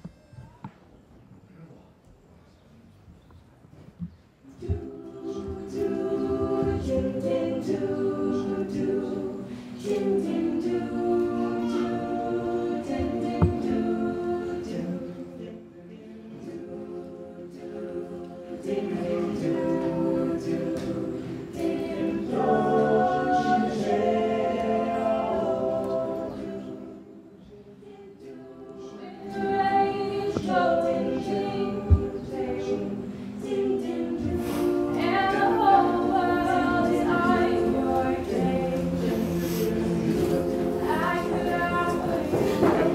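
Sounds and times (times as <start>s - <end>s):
choir singing held chords: 4.4s - 42.9s.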